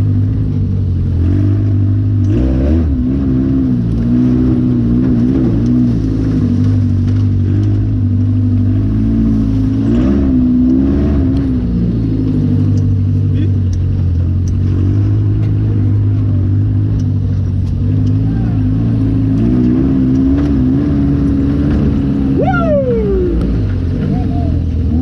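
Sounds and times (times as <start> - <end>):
buggy engine revving: 0.0 - 25.0.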